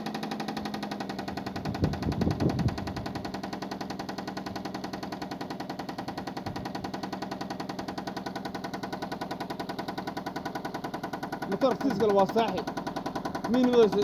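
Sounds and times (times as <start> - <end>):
engine running with rhythmic knocking: 0.0 - 14.0.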